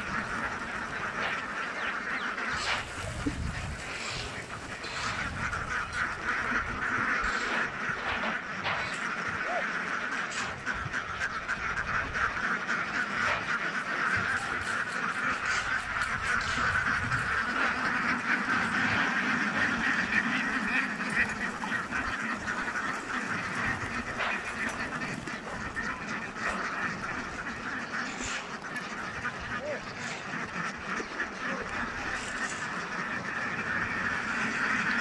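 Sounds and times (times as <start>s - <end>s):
flock of ducks quacking: 0.0s - 35.0s.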